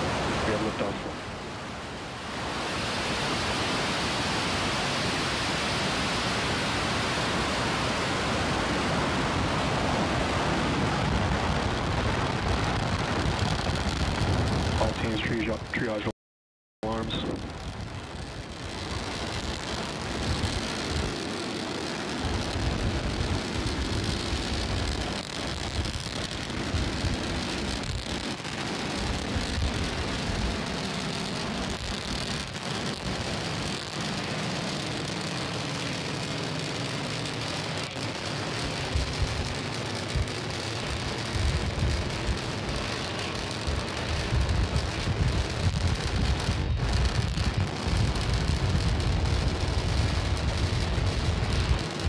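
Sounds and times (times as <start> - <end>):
rocket engines rumbling: 0.0 - 16.1, 16.8 - 52.0.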